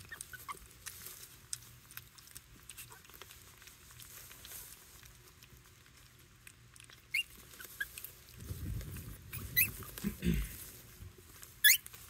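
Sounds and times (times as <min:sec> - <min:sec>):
puppies crunching dry kibble: 0:00.0 - 0:12.0.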